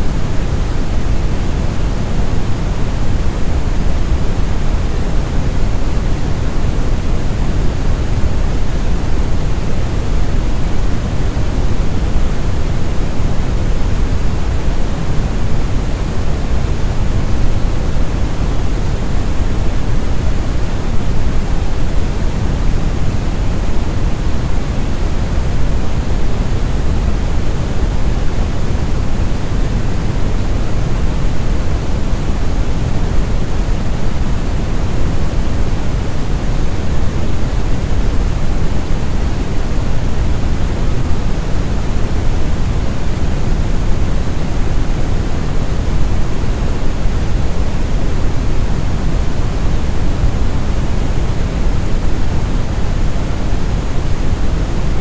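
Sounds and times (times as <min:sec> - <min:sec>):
deep brown noise rumbling hiss: 0:00.0 - 0:55.0.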